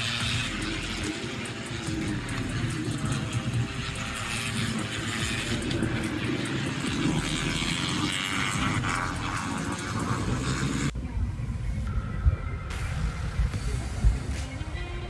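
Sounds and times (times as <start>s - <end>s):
racing motorcycle engines: 0.0s - 15.0s.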